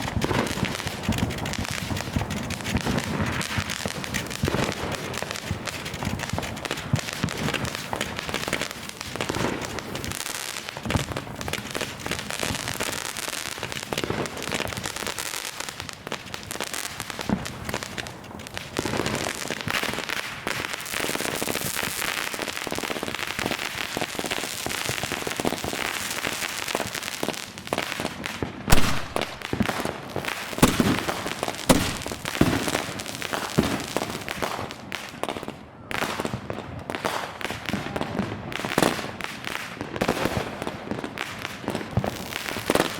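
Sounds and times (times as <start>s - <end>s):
loud sharp firework bangs: 0.0s - 27.0s, 28.7s - 36.4s
fireworks crackling pops: 0.0s - 42.9s.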